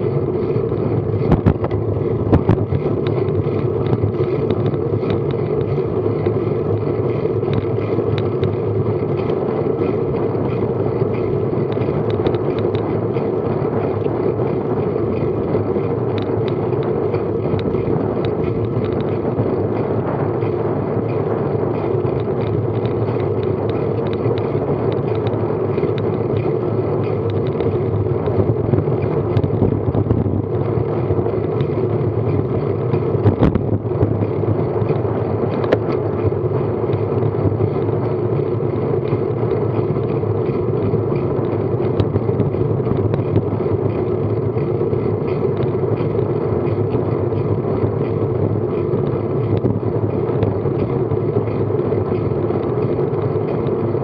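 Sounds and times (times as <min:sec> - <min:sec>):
bicycle tyre noise on tarmac: 0:00.0 - 0:54.0
wind rush: 0:00.0 - 0:54.0
faint ticks: 0:00.4 - 0:54.0.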